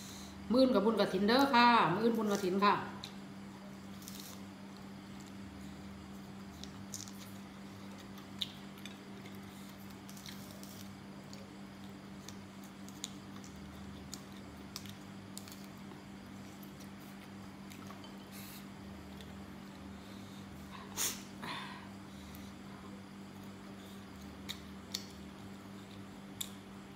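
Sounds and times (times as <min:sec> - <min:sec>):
electric fan humming: 0:00.0 - 0:26.9.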